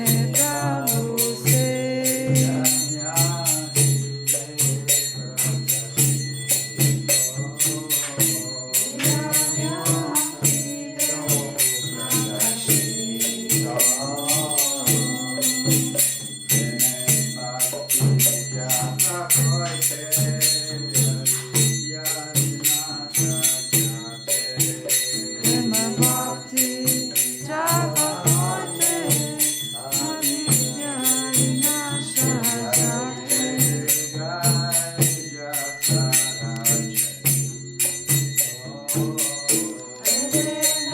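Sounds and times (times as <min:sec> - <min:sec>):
metallic percussion beat: 0:00.0 - 0:40.9
voices singing a chant: 0:00.0 - 0:40.9.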